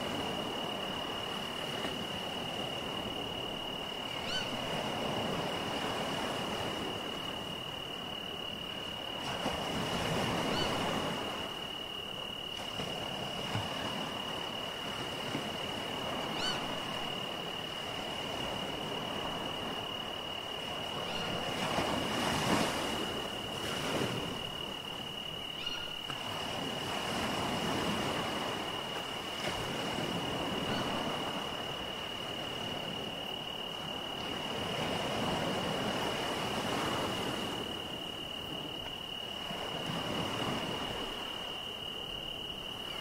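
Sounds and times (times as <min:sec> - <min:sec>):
high insect trill: 0:00.0 - 0:43.0
sea waves washing in: 0:00.0 - 0:43.0.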